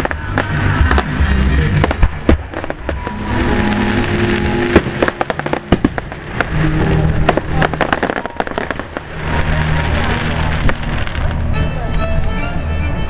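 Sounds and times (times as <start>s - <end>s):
fireworks bangs and crackling: 0.0s - 12.4s.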